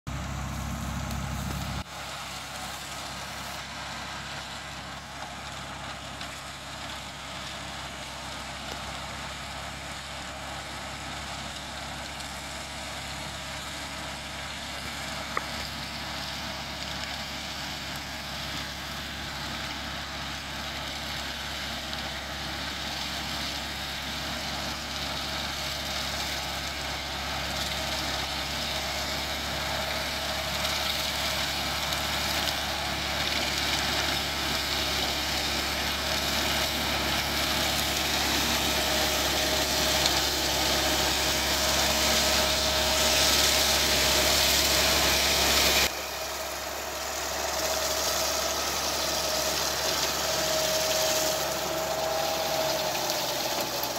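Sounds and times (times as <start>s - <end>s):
flail mulcher cutting dry weeds: 0.1s - 53.9s
tractor running under load: 0.1s - 53.9s.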